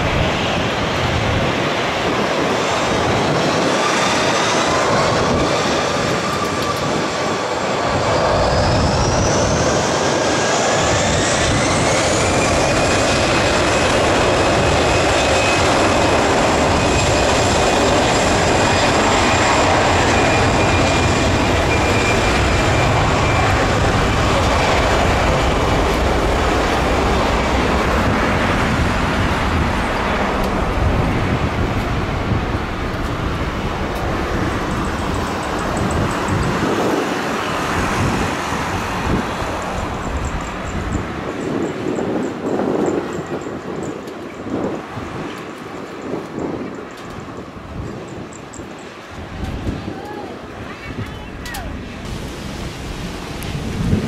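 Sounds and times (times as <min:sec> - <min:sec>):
jet engines spooling up: 0:00.0 - 0:54.0
rising engine whine: 0:00.0 - 0:54.0.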